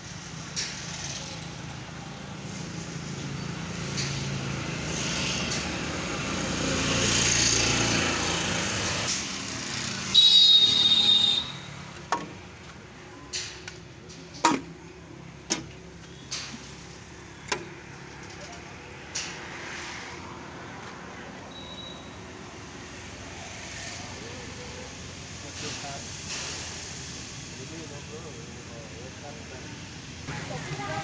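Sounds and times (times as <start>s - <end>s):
passing road vehicles: 0.0s - 31.0s.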